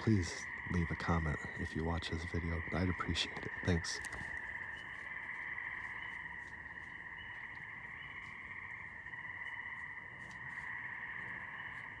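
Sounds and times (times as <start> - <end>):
high drone of night animals: 0.0 - 12.0.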